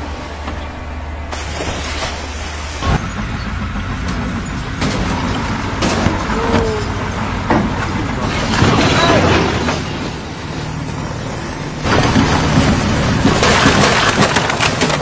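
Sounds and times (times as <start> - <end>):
crane engine running: 0.0 - 15.0.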